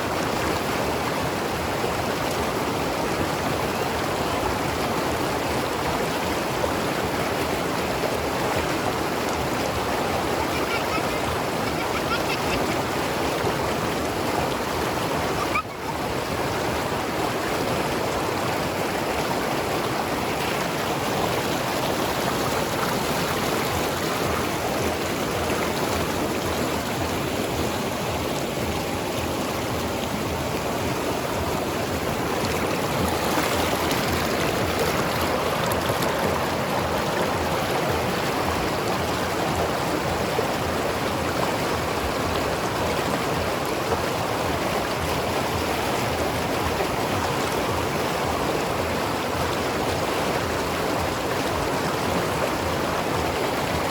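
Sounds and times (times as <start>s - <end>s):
river rushing over rocks: 0.0s - 53.9s.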